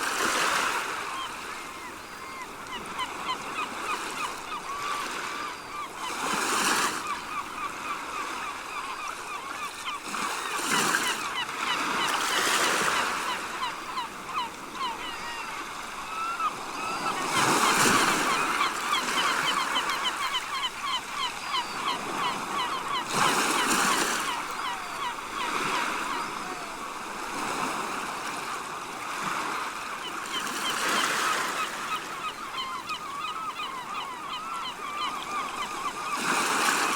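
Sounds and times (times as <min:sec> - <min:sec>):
sea waves washing ashore: 0:00.0 - 0:32.2
seagulls calling: 0:00.2 - 0:36.9.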